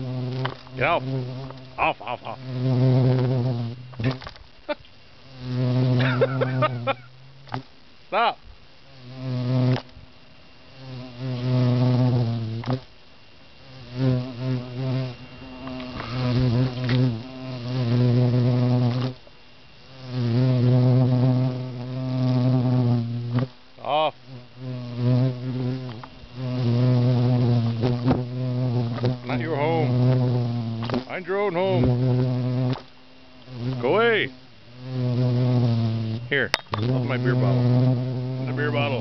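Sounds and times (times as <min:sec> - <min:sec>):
bee buzzing: 0:00.0 - 0:39.0.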